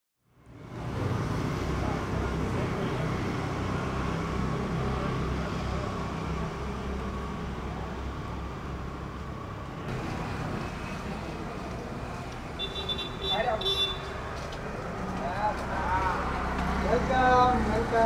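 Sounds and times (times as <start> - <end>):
road ambience: 0.2 - 18.0
vehicle engine rumble: 0.3 - 18.0.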